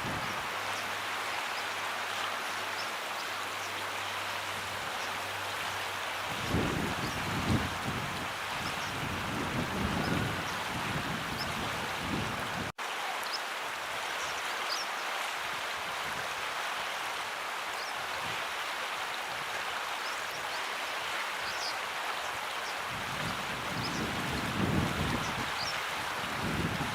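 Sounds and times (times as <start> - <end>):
flowing water: 0.0 - 26.9.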